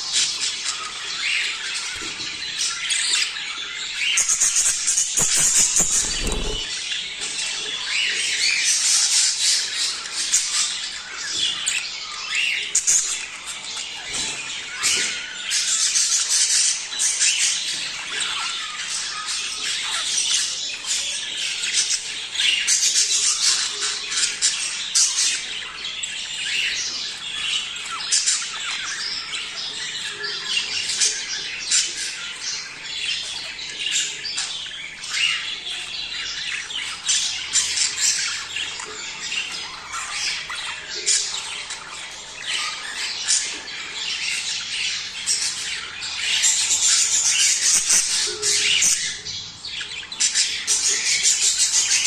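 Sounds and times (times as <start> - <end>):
budgerigars chattering and squawking: 0.0 - 52.0.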